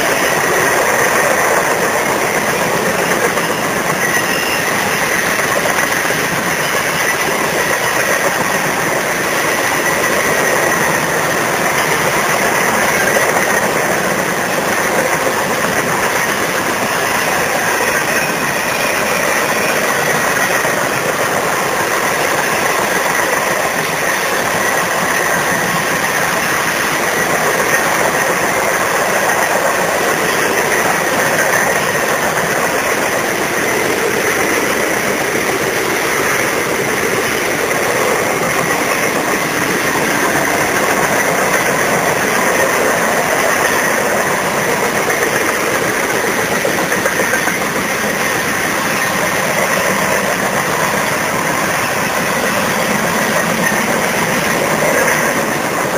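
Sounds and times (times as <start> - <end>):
steel wheels on rails: 0.0 - 55.9.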